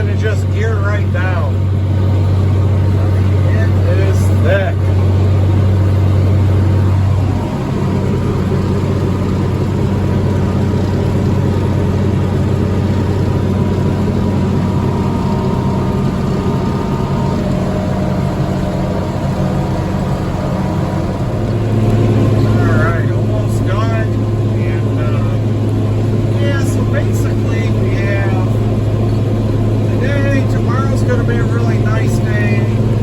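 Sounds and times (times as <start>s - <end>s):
mowing machine engine running: 0.0s - 33.0s.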